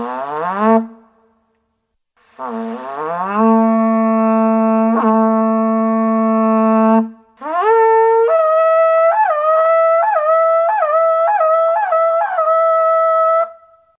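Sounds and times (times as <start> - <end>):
horn call: 2.4 - 13.7.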